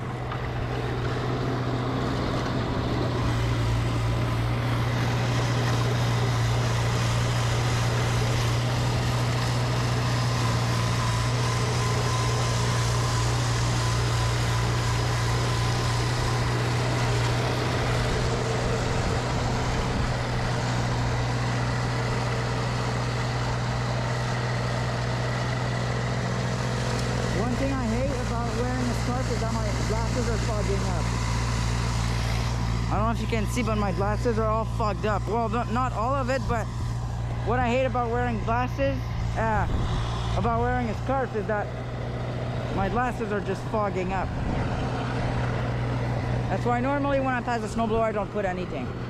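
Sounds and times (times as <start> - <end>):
blower rushing: 0.0 - 49.0
snowblower engine running: 0.0 - 49.0.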